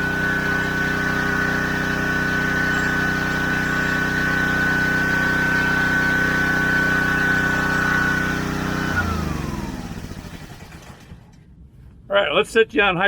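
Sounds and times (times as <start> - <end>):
pressure washer whining: 0.0 - 11.3.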